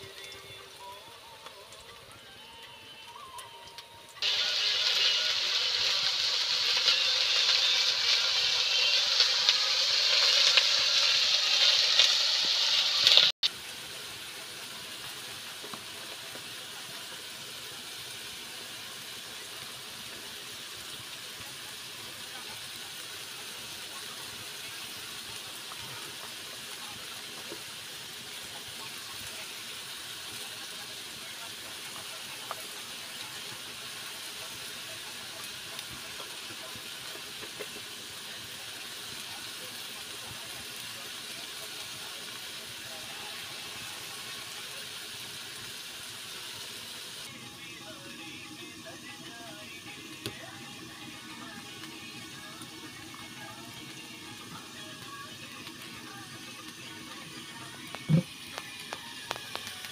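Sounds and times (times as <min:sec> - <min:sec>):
vegetables sizzling in a wok: 0:00.0 - 0:59.9.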